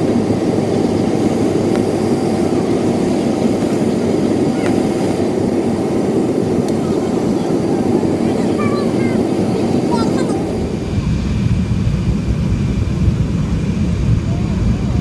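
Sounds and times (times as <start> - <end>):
jet engine and airflow in cabin: 0.0 - 15.0.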